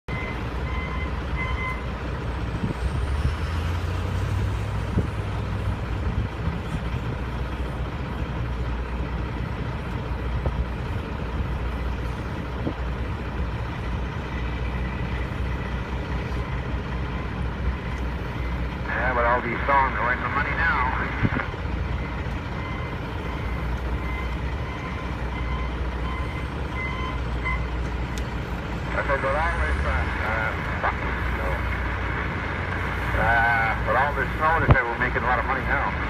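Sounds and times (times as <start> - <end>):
diesel truck engine droning: 0.1 - 36.0.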